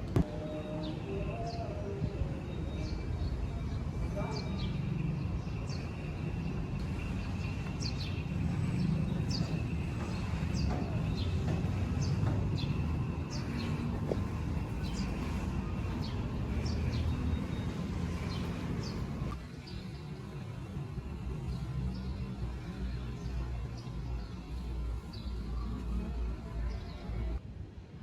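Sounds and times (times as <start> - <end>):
birds chirping: 0.1 - 27.4.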